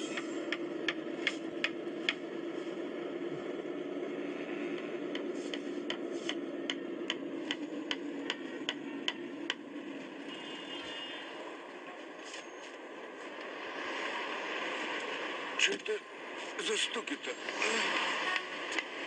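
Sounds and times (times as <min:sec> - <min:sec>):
car humming: 0:00.0 - 0:19.0.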